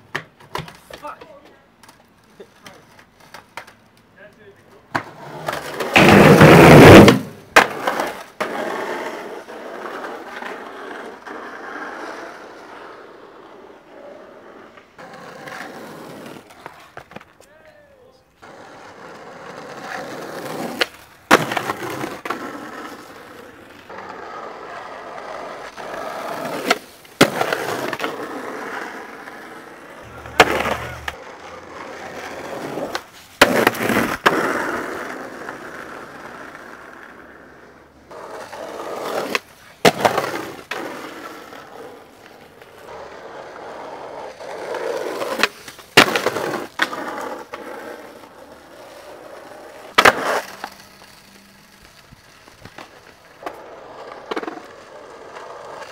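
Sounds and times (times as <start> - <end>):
skateboard clacks: 0.0 - 4.1, 4.8 - 17.6, 18.4 - 37.4, 38.1 - 55.9
skateboard wheels rolling on asphalt: 0.0 - 55.9.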